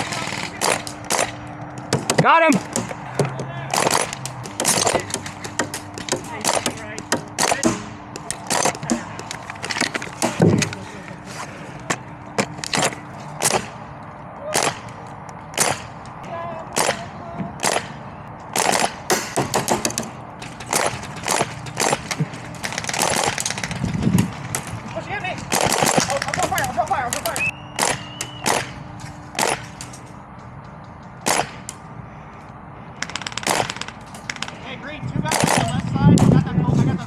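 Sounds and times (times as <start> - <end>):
airsoft guns popping: 0.0 - 10.8, 12.4 - 13.8, 14.5 - 28.8, 29.4 - 30.0, 31.0 - 31.8, 33.0 - 34.6, 35.3 - 36.3.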